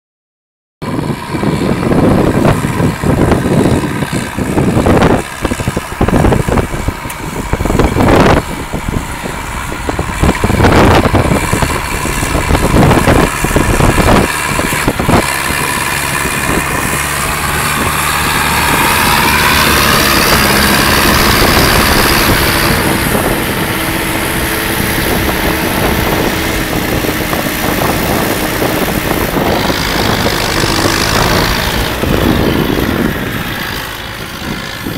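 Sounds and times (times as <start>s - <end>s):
tractor diesel engine running: 0.8s - 34.9s.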